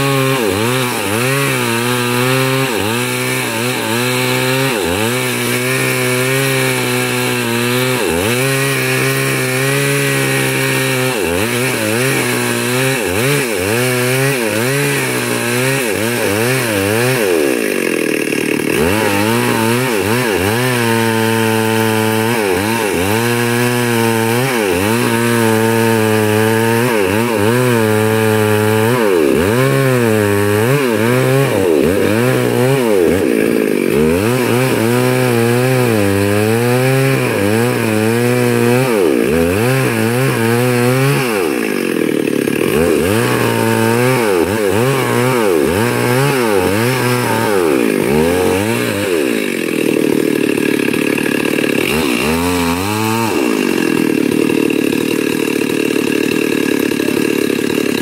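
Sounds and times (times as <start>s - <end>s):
chainsaw cutting log under load: 0.0s - 58.0s.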